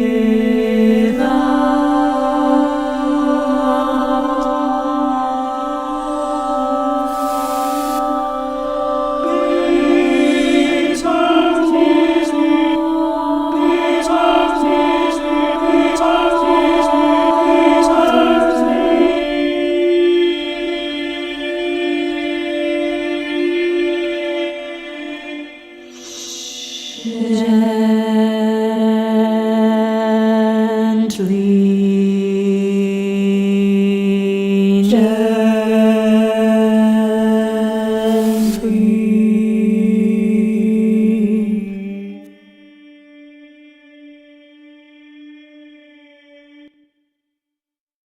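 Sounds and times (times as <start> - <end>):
choir singing: 0.0 - 46.8.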